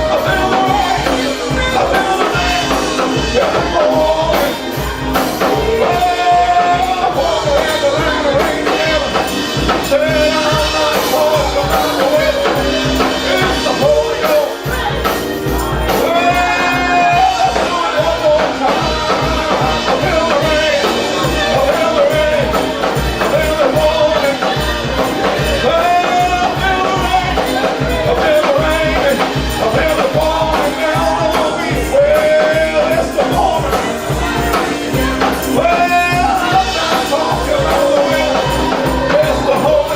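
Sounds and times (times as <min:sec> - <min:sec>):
band playing upbeat gospel song: 0:00.0 - 0:39.9
person singing: 0:00.0 - 0:39.9.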